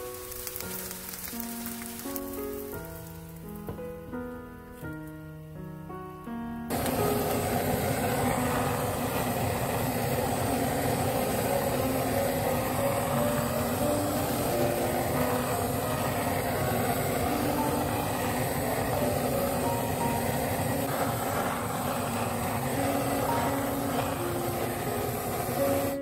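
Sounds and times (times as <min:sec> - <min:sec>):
pancake sizzling in oil: 0:00.0 - 0:03.6, 0:06.7 - 0:26.0.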